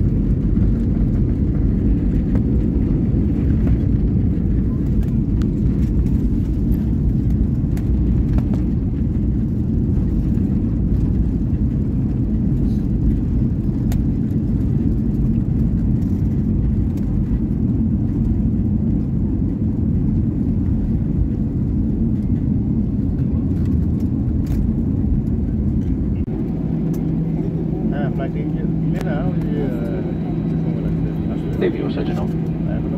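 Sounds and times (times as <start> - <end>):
airliner cabin low rumble: 0.0 - 32.9.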